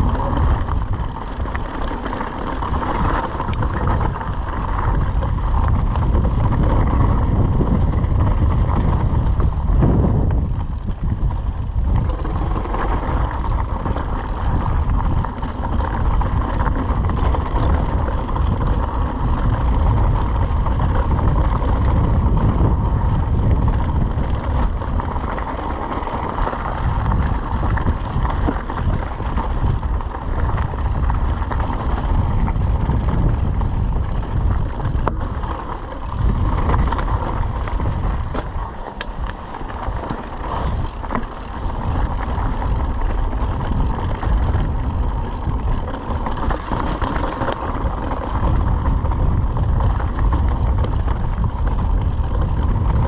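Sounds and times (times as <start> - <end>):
bike clicks and rattles: 0.0 - 53.0
wind buffeting microphone: 0.0 - 53.0
tyre rumble: 2.6 - 53.0.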